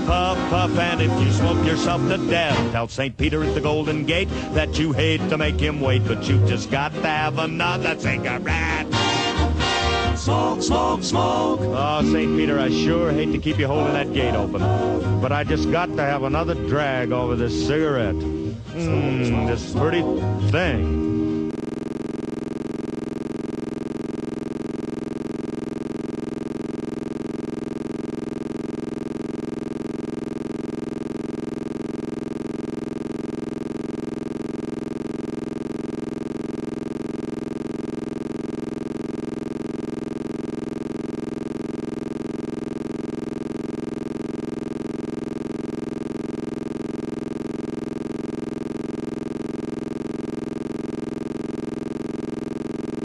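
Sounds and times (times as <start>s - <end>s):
steady electronic hum: 0.0s - 53.0s.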